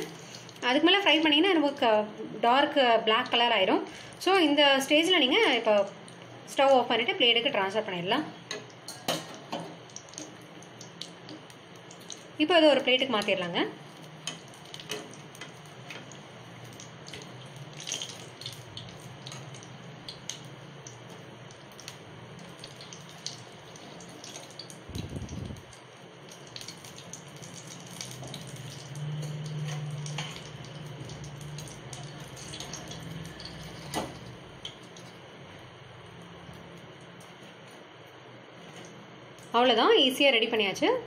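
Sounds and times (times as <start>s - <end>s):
hot oil bubbling and crackling: 0.0s - 40.2s.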